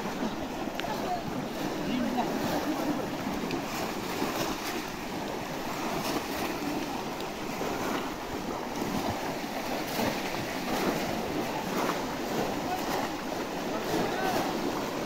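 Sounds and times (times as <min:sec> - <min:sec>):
people splashing through water: 0:00.0 - 0:15.0.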